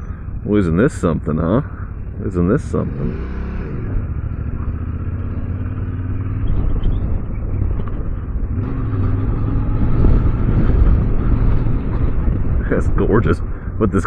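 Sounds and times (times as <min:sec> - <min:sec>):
motorcycle engine running: 0:00.0 - 0:14.0
wind on microphone: 0:01.8 - 0:14.0.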